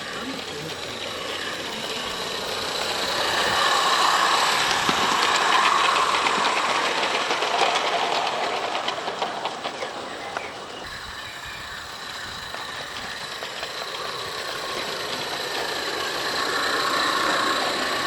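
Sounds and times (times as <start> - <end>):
hissing steam: 0.0 - 18.0
wheels clicking on track: 0.0 - 18.0.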